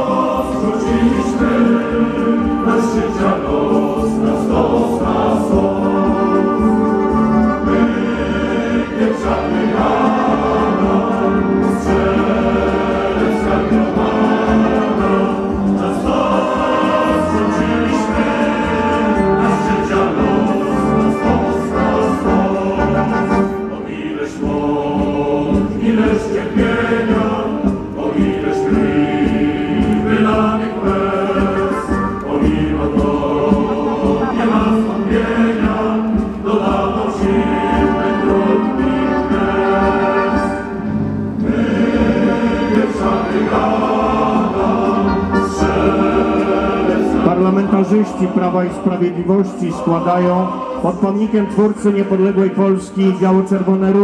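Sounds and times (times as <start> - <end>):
crowd singing: 0.0 - 54.0.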